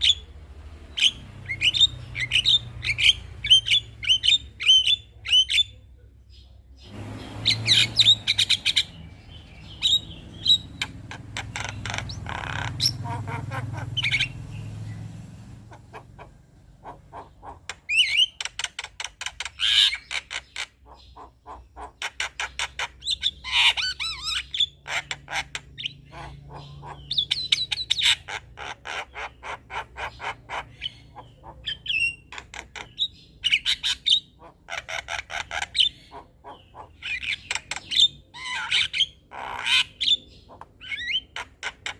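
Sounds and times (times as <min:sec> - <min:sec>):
bird singing chattering song: 0:00.0 - 0:41.9.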